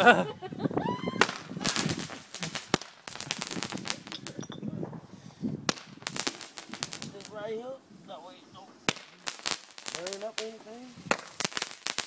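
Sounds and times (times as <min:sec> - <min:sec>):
firecrackers cracking and popping: 0:01.2 - 0:07.6, 0:08.7 - 0:12.0.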